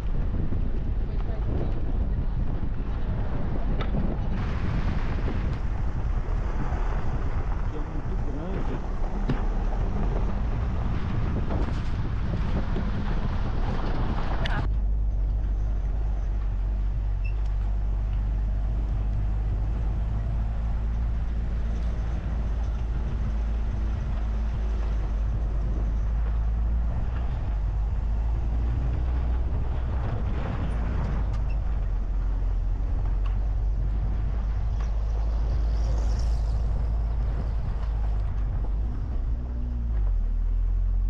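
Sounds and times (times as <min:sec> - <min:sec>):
car knocking over bumps: 0:00.0 - 0:35.9
car engine and tyres on dirt: 0:00.0 - 0:41.0.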